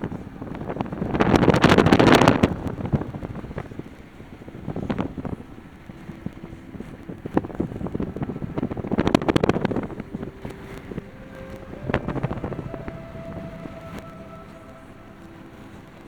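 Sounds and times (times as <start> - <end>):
car driving rumble: 2.2 - 16.0.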